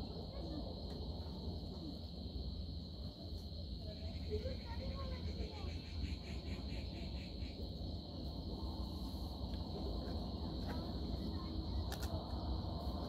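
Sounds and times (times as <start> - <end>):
insects trilling: 0.0 - 13.0
pulsing insect chirp: 0.0 - 13.0.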